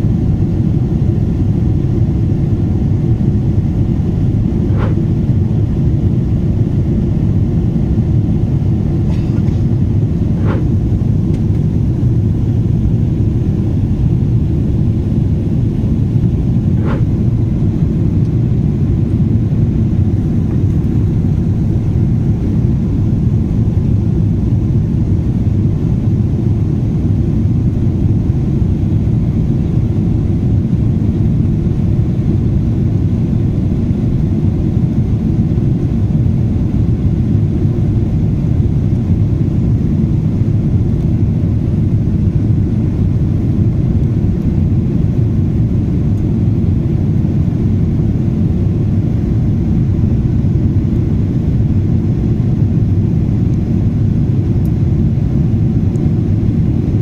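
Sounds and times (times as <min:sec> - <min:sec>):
airliner engine rumble in cabin: 0:00.0 - 0:57.0.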